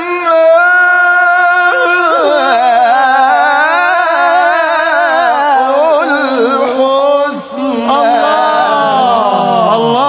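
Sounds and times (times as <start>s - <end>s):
person reciting melodically: 0.0s - 10.0s.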